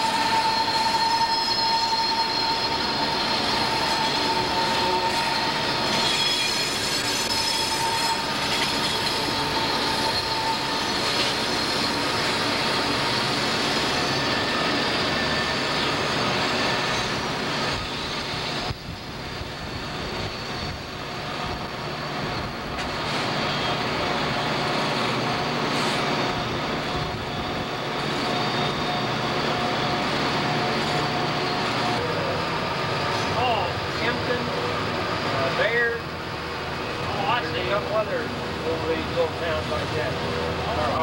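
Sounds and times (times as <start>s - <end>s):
diesel locomotives running: 0.0s - 41.0s
train wheels on track: 0.0s - 41.0s.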